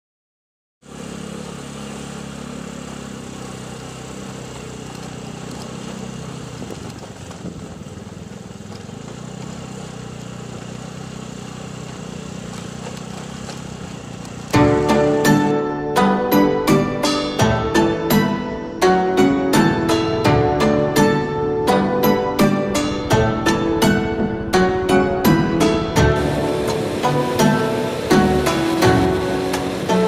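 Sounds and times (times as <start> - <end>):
outdoor background noise: 0.8 - 15.6, 16.3 - 30.0
motorbike engine running: 0.8 - 30.0.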